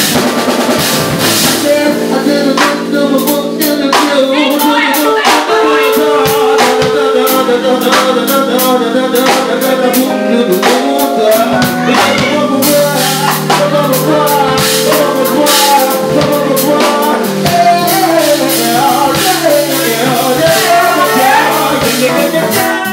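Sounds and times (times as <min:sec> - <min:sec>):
percussion beat: 0:00.0 - 0:08.4, 0:10.6 - 0:22.9
soul band playing: 0:00.0 - 0:22.9
man singing: 0:01.3 - 0:22.9.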